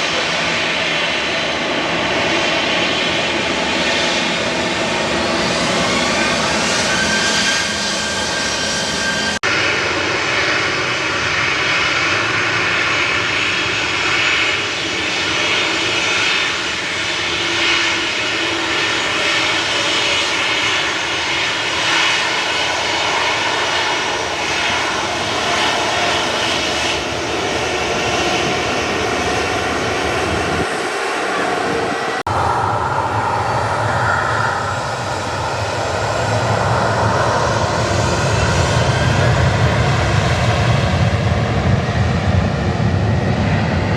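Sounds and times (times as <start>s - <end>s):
jet engines running loud: 0.0s - 43.9s
rising jet engine whine: 0.0s - 43.9s.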